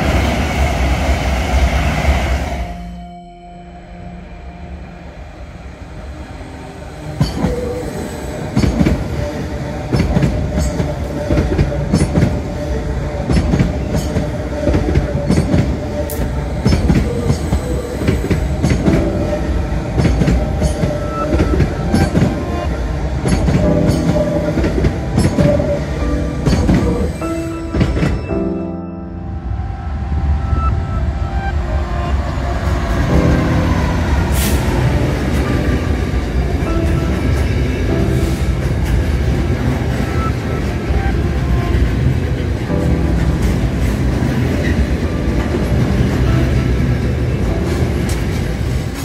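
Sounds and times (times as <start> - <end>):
faint train whine: 0.0 - 49.0
train rumble: 0.0 - 49.0.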